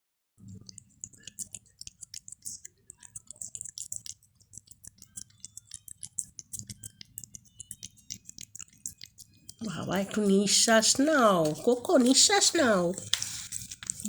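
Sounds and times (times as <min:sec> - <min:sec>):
cat chewing and lip-smacking: 0:00.4 - 0:14.0.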